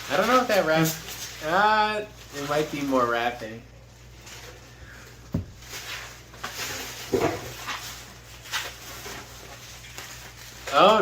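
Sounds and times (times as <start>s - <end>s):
packing material rustling: 0.0s - 11.0s.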